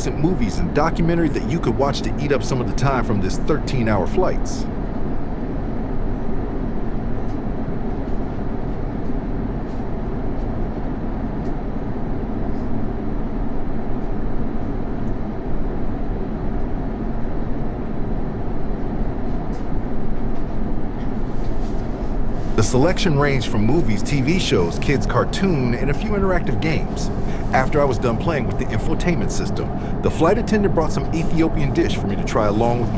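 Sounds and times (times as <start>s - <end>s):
airliner cabin noise: 0.0s - 32.9s.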